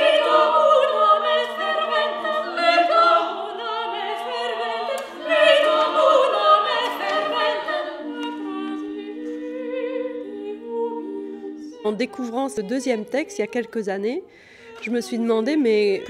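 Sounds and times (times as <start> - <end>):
women singing a cappella: 0.0 - 16.0.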